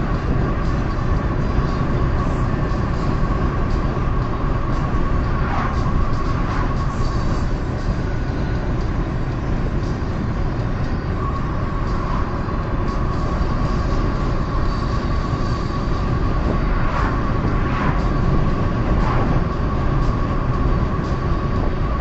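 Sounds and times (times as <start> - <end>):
car road noise from inside: 0.0 - 22.0
faint steady whine: 0.0 - 22.0.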